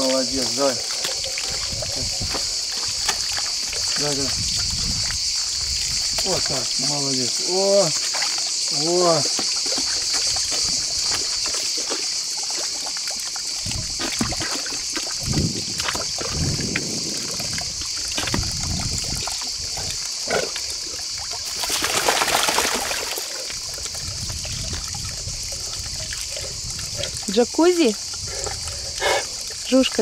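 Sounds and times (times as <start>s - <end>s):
high-pitched insect chorus: 0.0s - 30.0s
water sloshing: 0.0s - 30.0s
water trickling into trough: 0.0s - 30.0s.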